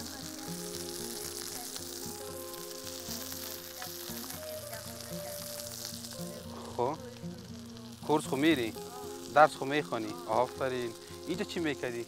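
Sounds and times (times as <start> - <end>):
background music with held notes: 0.0 - 12.0
food sizzling in a pan: 0.0 - 12.0.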